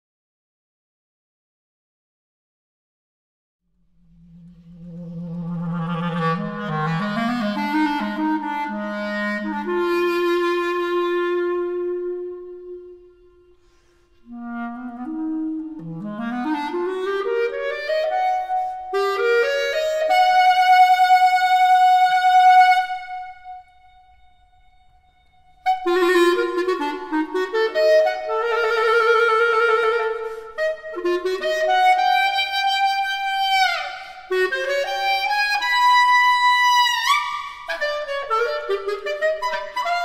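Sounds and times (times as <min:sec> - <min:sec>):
solo clarinet playing: 0:04.0 - 0:40.0.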